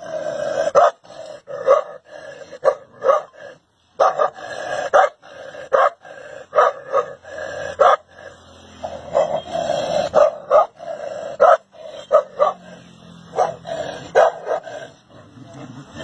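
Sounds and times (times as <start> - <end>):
dog barking: 0.6 - 3.4, 4.0 - 8.1, 8.8 - 14.8.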